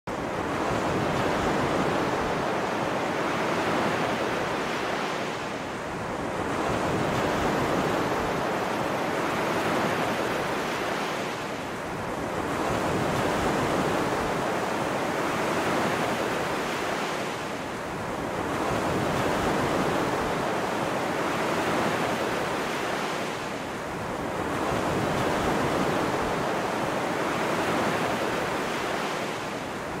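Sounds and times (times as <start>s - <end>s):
ocean waves washing in: 0.1s - 30.0s.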